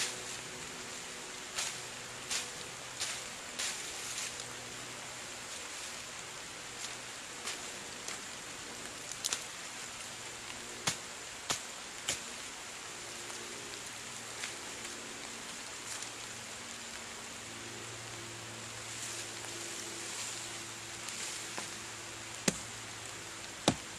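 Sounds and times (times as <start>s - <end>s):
rain pattering on forest canopy: 0.0s - 23.9s.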